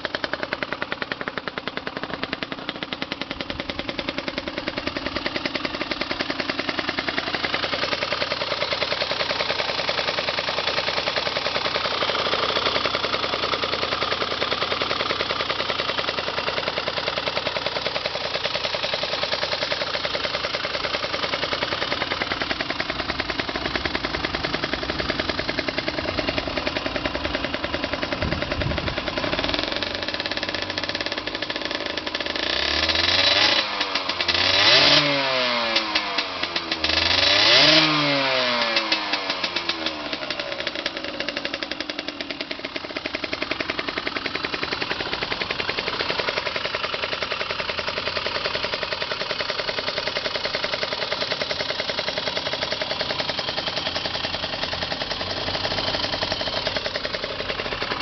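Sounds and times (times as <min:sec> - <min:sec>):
two-stroke engine popping exhaust: 0:00.0 - 0:58.0.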